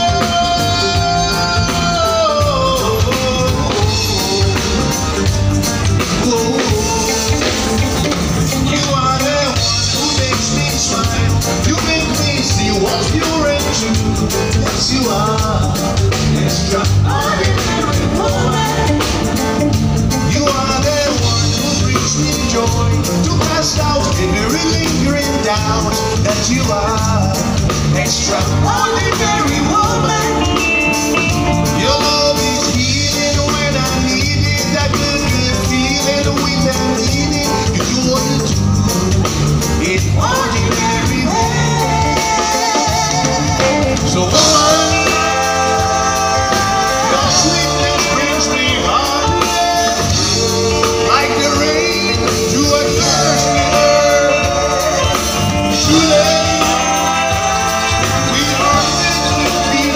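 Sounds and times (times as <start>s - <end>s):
backing vocalists: 0.0s - 59.9s
live reggae band: 0.0s - 59.9s
person singing: 0.0s - 59.9s.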